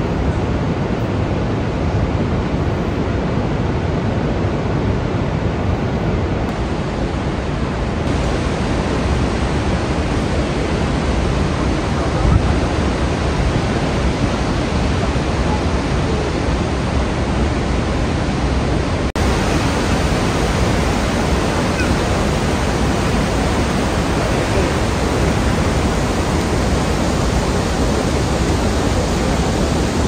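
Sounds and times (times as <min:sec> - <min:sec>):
waterfall roar: 0:00.0 - 0:30.0.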